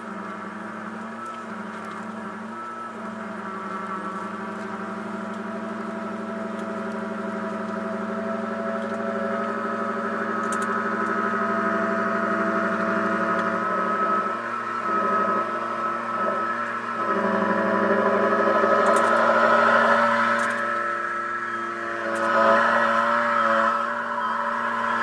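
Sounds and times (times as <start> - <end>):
garden tractor engine humming: 0.0 - 25.0.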